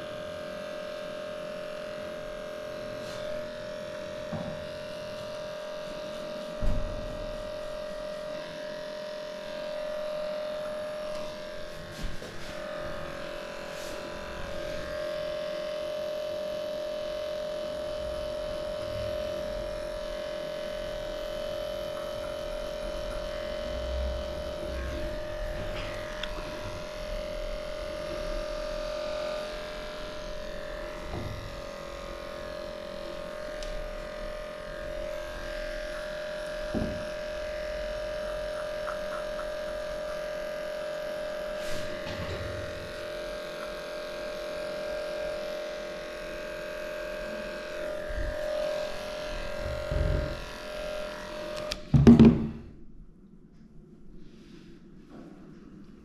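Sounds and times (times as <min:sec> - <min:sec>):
electric clippers buzzing: 0:00.0 - 0:52.8.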